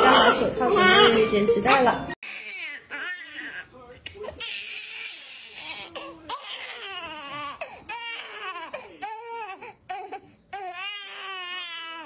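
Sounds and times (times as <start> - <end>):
newborn baby crying: 0.0 - 1.5, 2.2 - 12.0.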